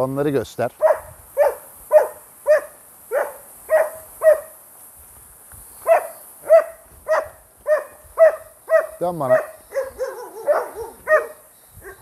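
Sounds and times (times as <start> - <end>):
dog barking: 0.8 - 4.5, 5.9 - 12.0.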